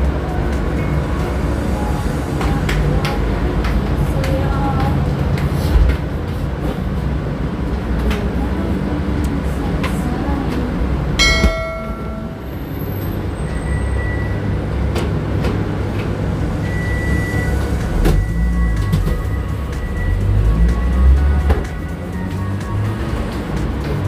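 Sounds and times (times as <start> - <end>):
faint background music: 0.0 - 13.3, 16.3 - 24.0.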